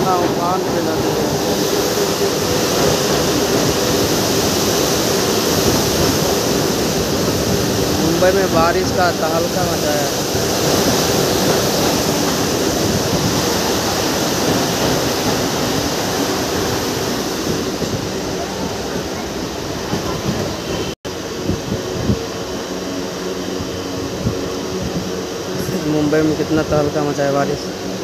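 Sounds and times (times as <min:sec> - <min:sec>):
train wheels rumbling and rattling: 0:00.0 - 0:28.0.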